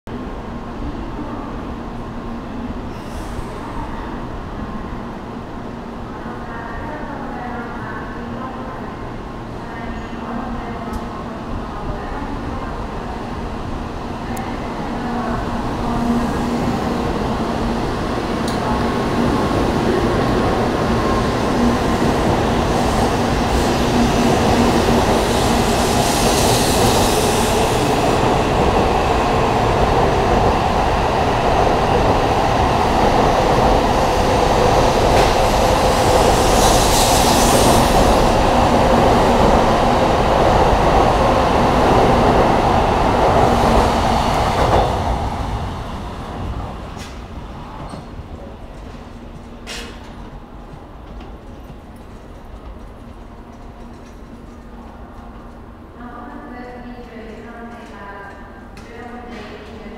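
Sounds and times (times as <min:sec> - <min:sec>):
train rumbling past: 0:00.2 - 0:59.9.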